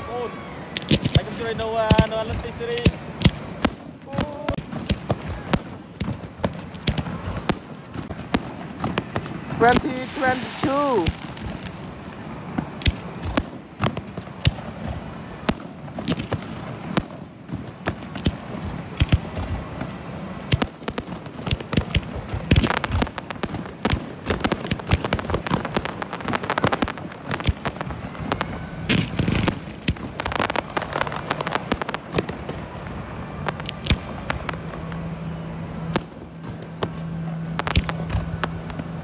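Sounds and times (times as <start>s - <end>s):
rapid firework crackling: 0.0s - 39.0s
firework shells bursting: 0.7s - 35.2s, 35.8s - 39.0s.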